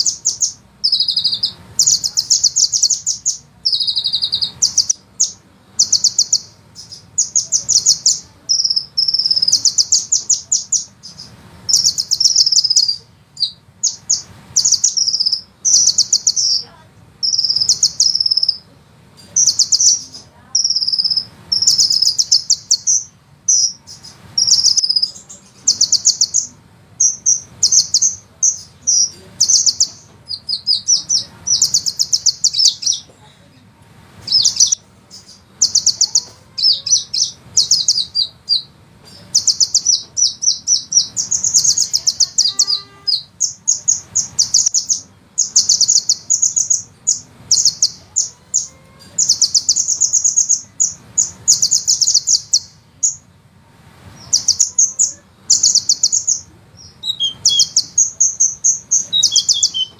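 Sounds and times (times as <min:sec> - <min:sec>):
bird trilling song: 0:00.0 - 0:33.2, 0:34.2 - 0:53.4, 0:54.2 - 0:59.9.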